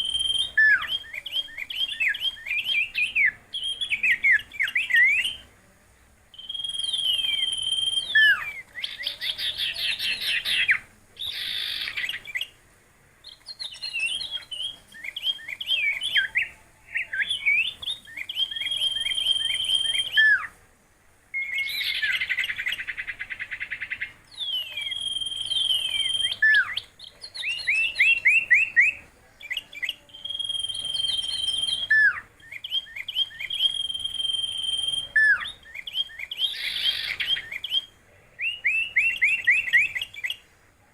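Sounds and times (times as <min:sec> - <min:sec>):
songbird singing: 0:00.0 - 0:12.6, 0:13.2 - 0:20.6, 0:21.3 - 0:40.6.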